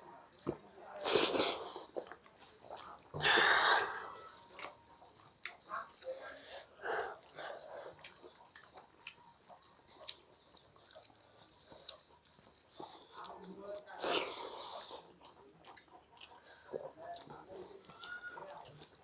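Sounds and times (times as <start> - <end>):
chewing and mouth noises: 1.0 - 19.0.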